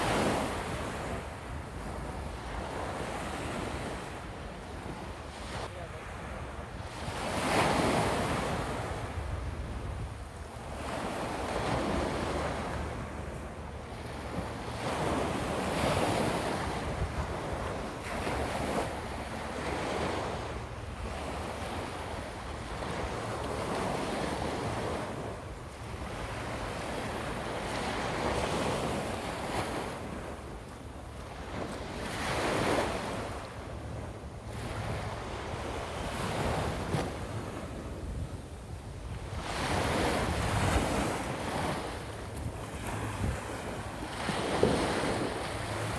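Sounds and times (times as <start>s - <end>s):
small waves breaking on beach: 0.0s - 45.9s
wind rumbling on microphone: 0.0s - 45.9s.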